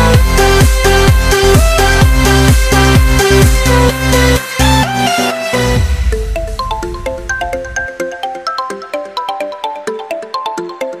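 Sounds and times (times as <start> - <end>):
electronic music plucked notes: 0.0 - 11.0.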